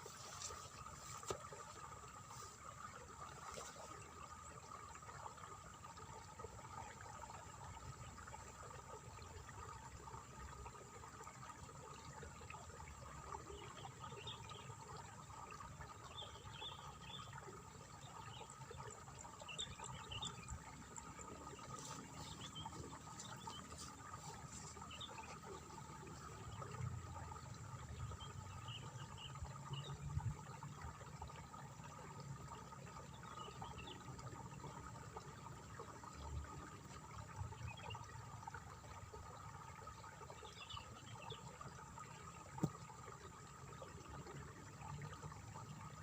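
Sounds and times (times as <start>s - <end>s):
water trickling and splashing: 0.0s - 46.0s.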